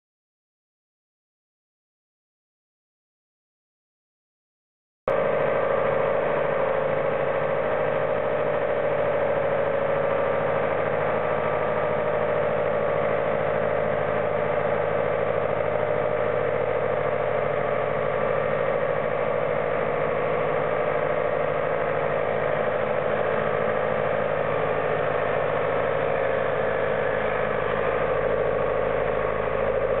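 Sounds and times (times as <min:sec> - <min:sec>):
tractor diesel engine running: 0:05.1 - 0:30.0.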